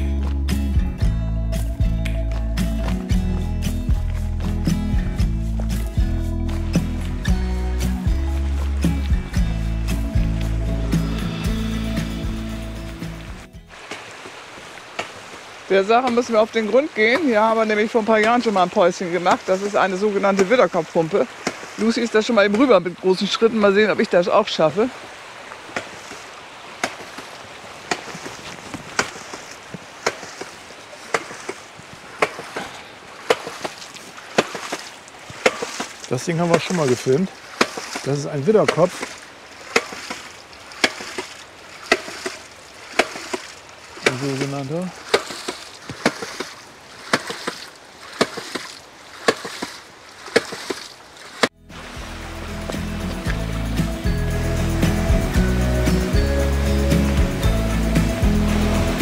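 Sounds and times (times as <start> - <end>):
running water hiss: 3.6 - 59.0.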